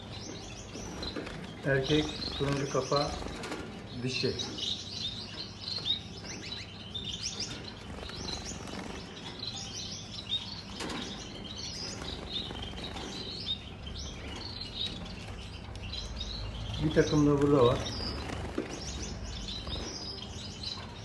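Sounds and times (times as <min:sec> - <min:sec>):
finches chirping: 0:00.0 - 0:21.0.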